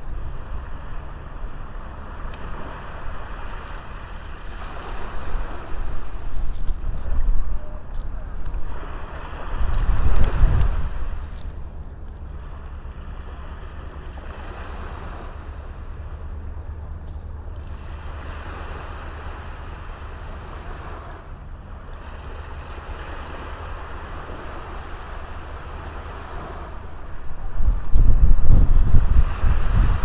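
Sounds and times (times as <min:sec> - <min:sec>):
small waves washing onto beach: 0:00.0 - 0:30.0
wind buffeting microphone: 0:00.0 - 0:30.0.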